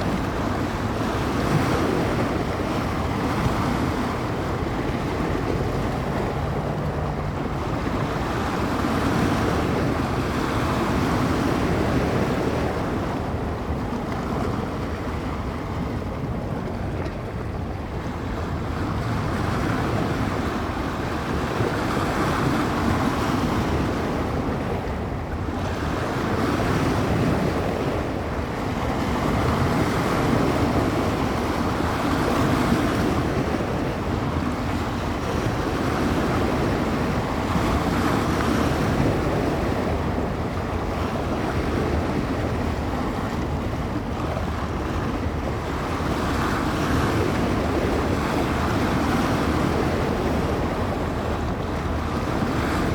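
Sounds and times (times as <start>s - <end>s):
waves washing on shore: 0.0s - 52.9s
wind buffeting microphone: 0.0s - 52.9s.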